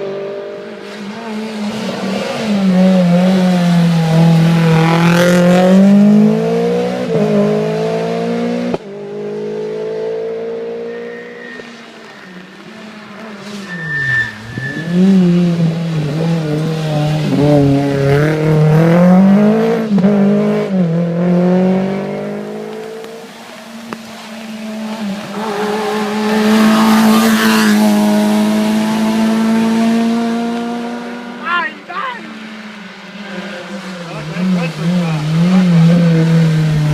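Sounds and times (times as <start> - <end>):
rally car engine revving: 0.0 - 12.0, 12.6 - 31.6, 32.3 - 36.9
car engine at high revs: 0.0 - 36.9.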